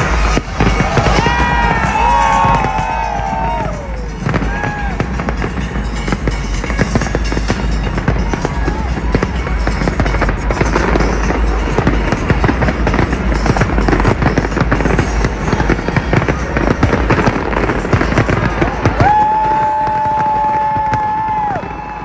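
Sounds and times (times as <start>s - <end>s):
fireworks banging and crackling: 0.0s - 22.0s
music: 0.0s - 22.0s.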